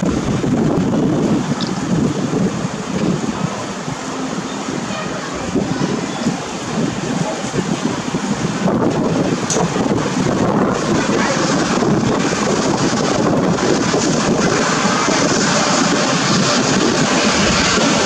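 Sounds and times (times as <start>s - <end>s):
electric train rumbling: 0.0s - 18.0s
wind buffeting microphone: 0.0s - 18.0s.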